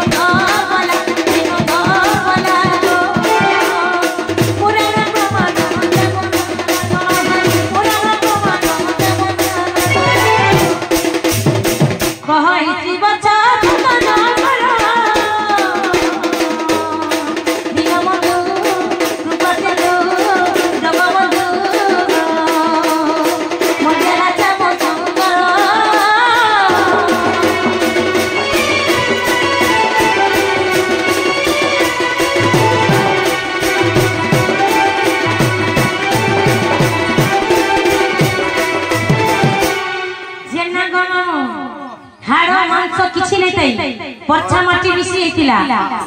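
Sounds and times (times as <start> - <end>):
barrel drum beating: 0.0 - 12.3, 13.6 - 40.2.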